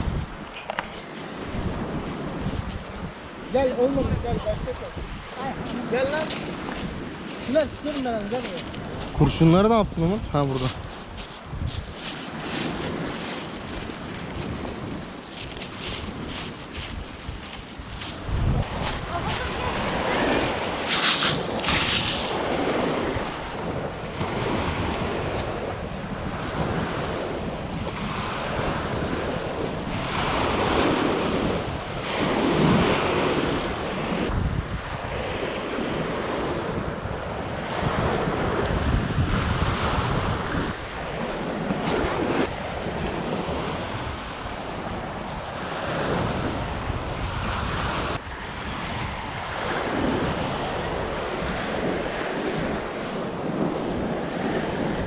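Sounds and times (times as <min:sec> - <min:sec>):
wind gusting across microphone: 0:00.0 - 0:55.0.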